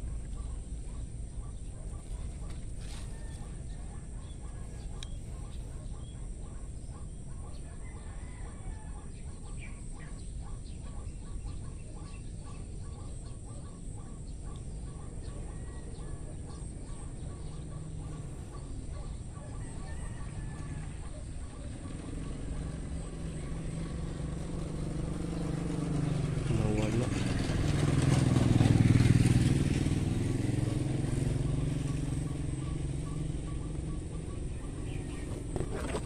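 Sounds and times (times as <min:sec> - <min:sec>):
bird clucking: 0:00.0 - 0:23.9, 0:30.7 - 0:36.0
constant low rumble: 0:00.0 - 0:36.0.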